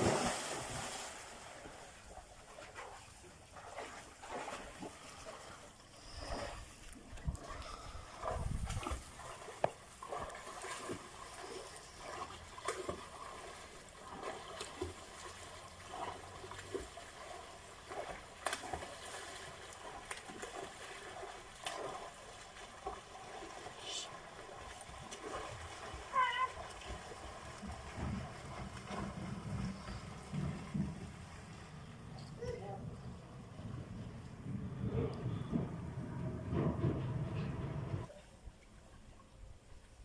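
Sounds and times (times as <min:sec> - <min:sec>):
water splashing from swimmers: 0:00.0 - 0:32.2.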